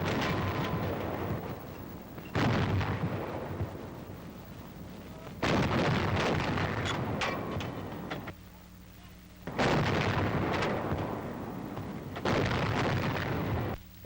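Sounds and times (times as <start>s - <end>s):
heavy gunshots with rumbling tail: 0.0s - 8.3s, 9.5s - 13.8s
faint sharp cracks: 0.0s - 14.0s.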